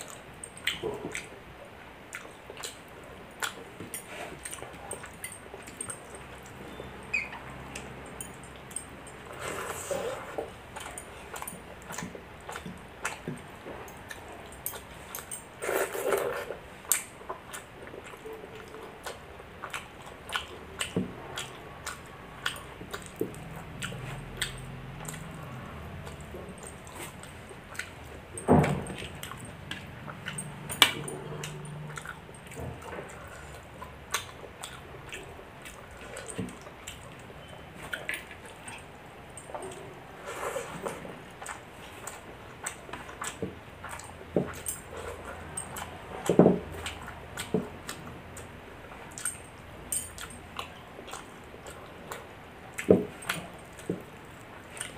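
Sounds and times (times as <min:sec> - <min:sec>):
wet chewing: 0:00.0 - 0:54.9.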